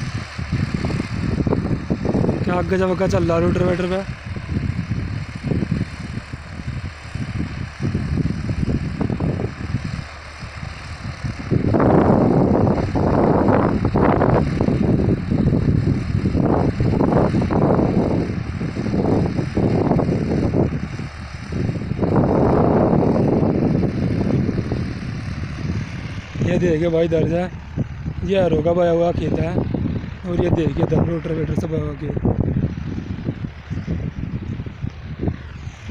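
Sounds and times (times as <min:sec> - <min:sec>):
distant tractor engine rumble: 0:00.0 - 0:35.9
wind rumbling on microphone: 0:00.0 - 0:35.9.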